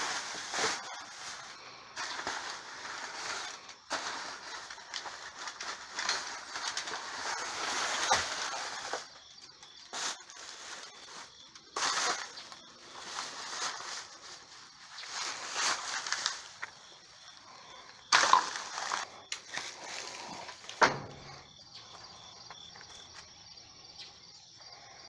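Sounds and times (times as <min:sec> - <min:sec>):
plastic bags rustling: 0:00.0 - 0:21.4.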